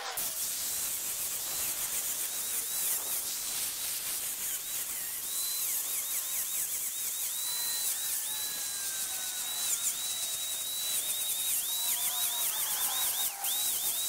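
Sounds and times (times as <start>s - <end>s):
angle grinder cutting steel: 0.0s - 14.0s.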